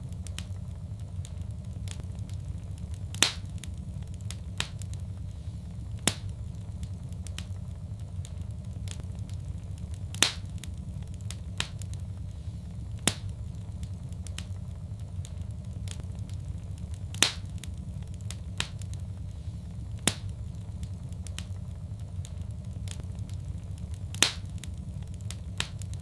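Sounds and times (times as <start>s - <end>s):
low rumble of burning fire: 0.0s - 26.0s
sharp pops of wood fire: 0.0s - 26.0s.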